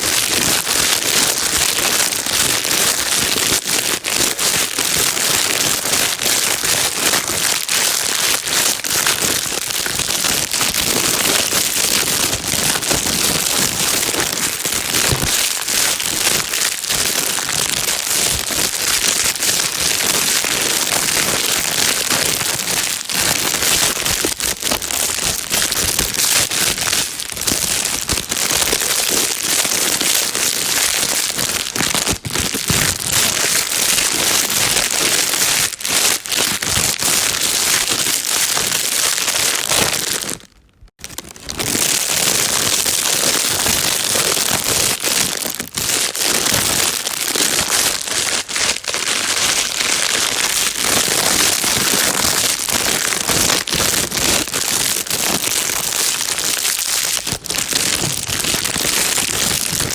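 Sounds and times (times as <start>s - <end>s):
plastic bag crinkling: 0.0s - 59.9s.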